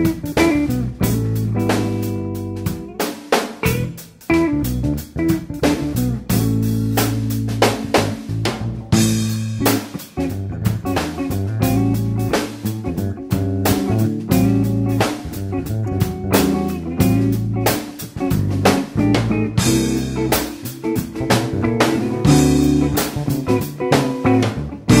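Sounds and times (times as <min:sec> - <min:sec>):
bass: 0:00.0 - 0:25.0
drum-kit beat: 0:00.0 - 0:25.0
guitar: 0:00.0 - 0:25.0.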